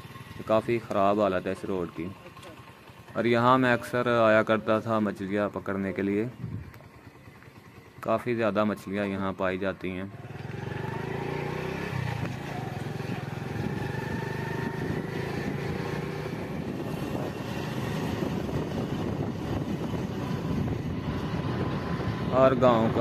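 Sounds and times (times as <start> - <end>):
wind and road noise: 0.0 - 1.6, 2.6 - 23.0
motorcycle engine running: 0.0 - 23.0.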